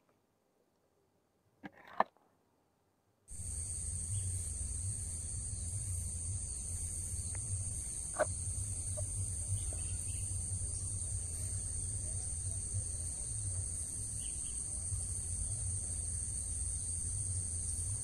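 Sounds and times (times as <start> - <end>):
high-pitched insect chorus: 3.3 - 18.0
low rumble: 3.3 - 18.0.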